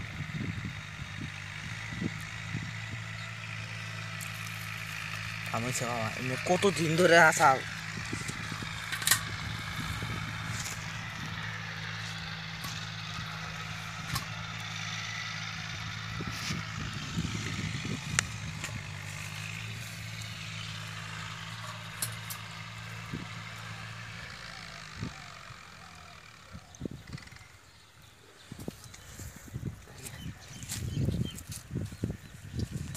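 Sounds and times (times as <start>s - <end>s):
engine humming: 0.0s - 32.9s.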